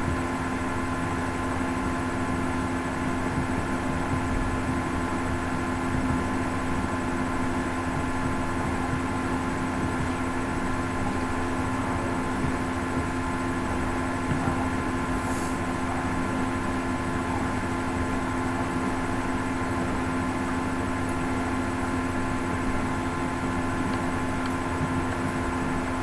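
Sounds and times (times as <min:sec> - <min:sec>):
washing machine motor hum: 0:00.0 - 0:26.0.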